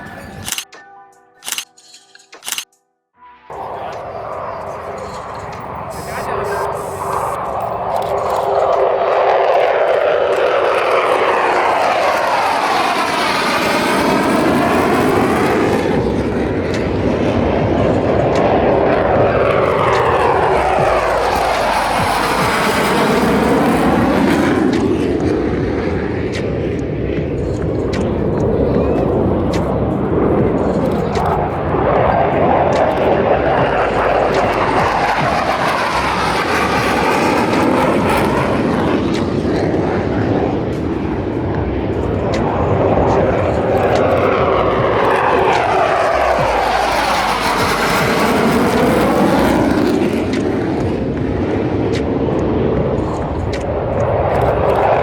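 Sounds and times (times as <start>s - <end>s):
fighter jet flying past: 3.5s - 55.0s.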